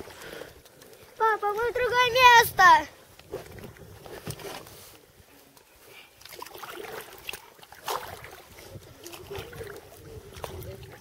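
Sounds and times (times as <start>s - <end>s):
water lapping against rubber boat: 0.0s - 11.0s.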